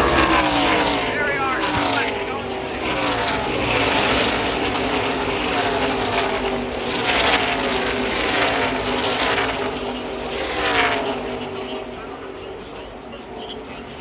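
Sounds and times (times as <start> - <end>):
race truck engines passing: 0.0 - 14.0.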